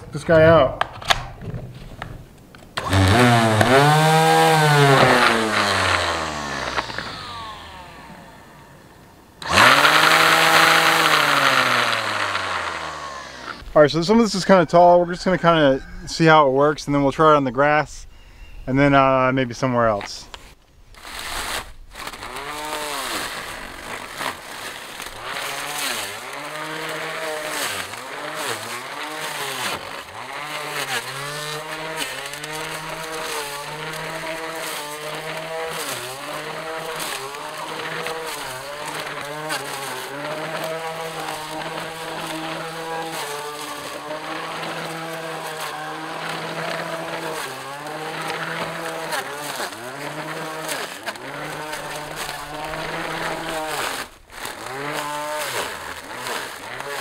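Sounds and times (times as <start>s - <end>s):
electric trimmer cutting grass: 2.8s - 13.7s, 21.0s - 57.0s.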